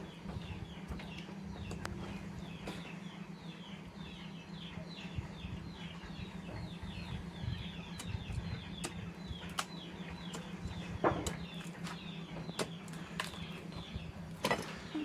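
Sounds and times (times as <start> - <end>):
chickens chirping and clucking: 0.0 - 15.0
steady low hum: 0.0 - 15.0.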